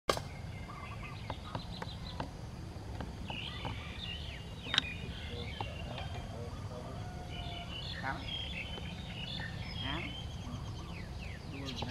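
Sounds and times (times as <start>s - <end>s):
birds chirping faintly: 0.1s - 11.9s
low outdoor rumble: 0.1s - 11.9s.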